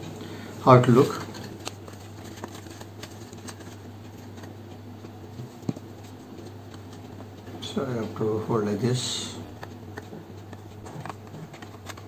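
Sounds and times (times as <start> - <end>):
steady low hum: 0.0 - 12.0
card paper rustling and clicking: 0.7 - 8.2, 9.5 - 12.0.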